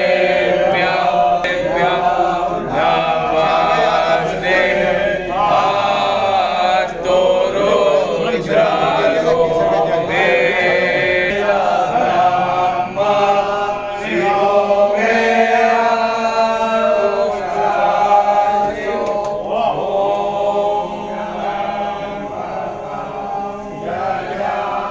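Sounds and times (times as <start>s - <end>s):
voices chanting a hymn: 0.0s - 24.9s.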